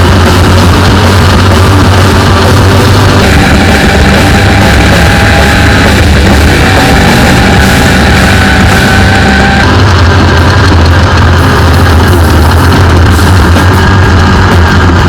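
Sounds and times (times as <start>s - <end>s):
loud music: 0.0s - 15.0s.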